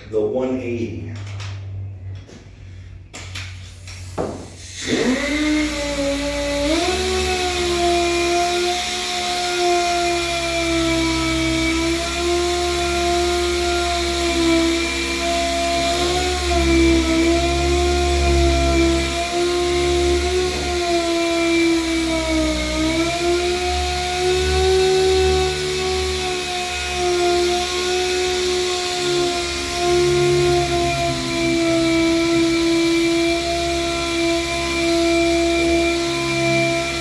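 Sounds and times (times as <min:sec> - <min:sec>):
power sander whining: 0:04.1 - 0:37.0.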